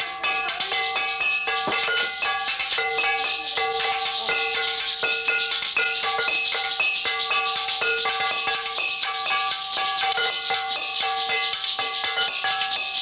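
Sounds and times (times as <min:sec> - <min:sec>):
shaker rattle: 0:00.0 - 0:13.0.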